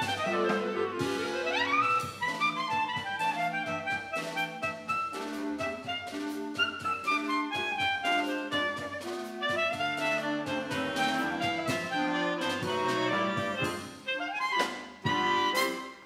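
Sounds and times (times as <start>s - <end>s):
clarinet ensemble playing: 0.0s - 16.0s
drum kit: 0.0s - 16.0s.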